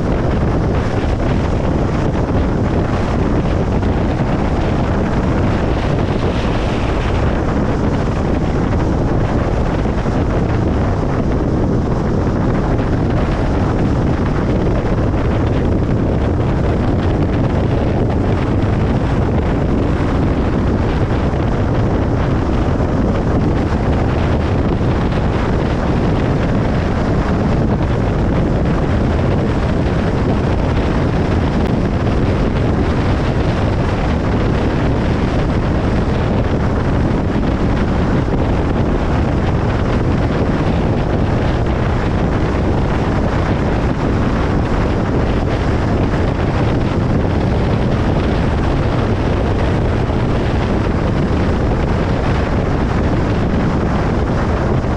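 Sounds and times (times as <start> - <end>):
car road noise: 0.0 - 54.9.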